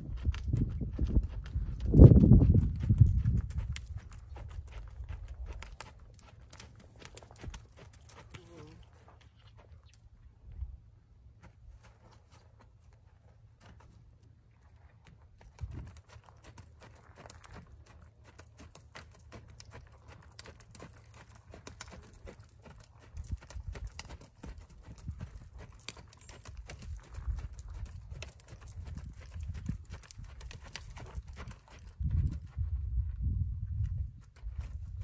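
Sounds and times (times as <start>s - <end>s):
horse hoofbeats on sand: 0.0s - 9.1s, 11.4s - 33.0s.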